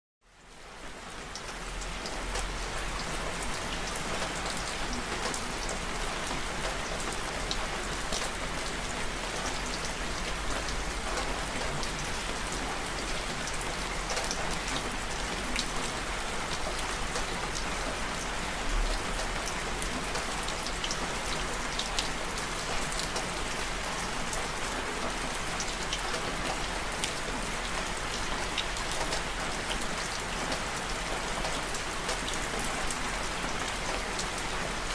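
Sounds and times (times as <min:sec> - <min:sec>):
steady rain: 0:00.2 - 0:34.9.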